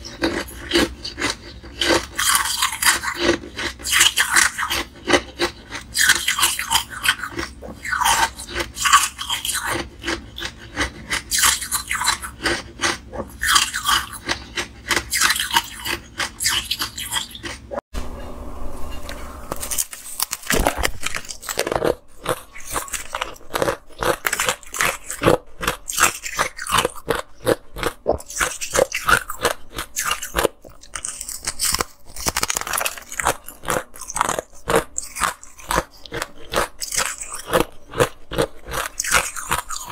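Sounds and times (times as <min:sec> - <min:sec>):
ice crunching between teeth: 0:00.0 - 0:17.7, 0:19.5 - 0:39.9.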